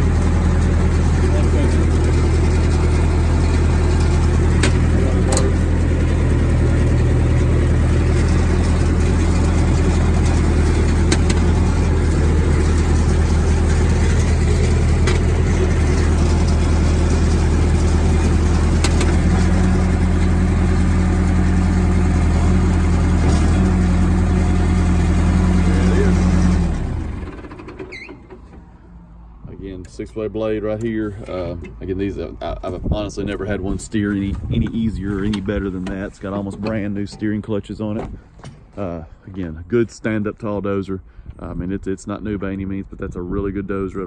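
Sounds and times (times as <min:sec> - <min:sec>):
diesel engine running: 0:00.0 - 0:39.6.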